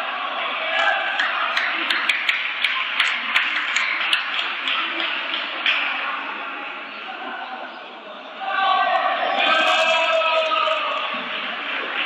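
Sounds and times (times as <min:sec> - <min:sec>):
murmur of sports hall: 0:00.0 - 0:12.0.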